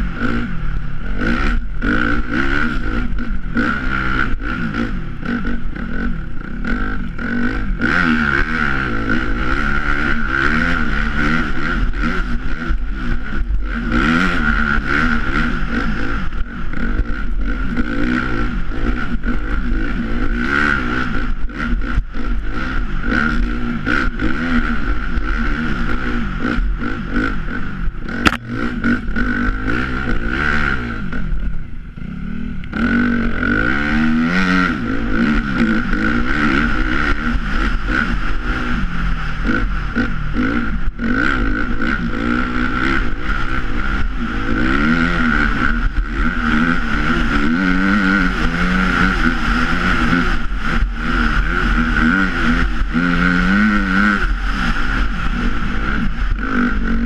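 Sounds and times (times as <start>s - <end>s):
dirt bike engine revving: 0.0s - 57.0s
steady high whine: 0.0s - 57.0s.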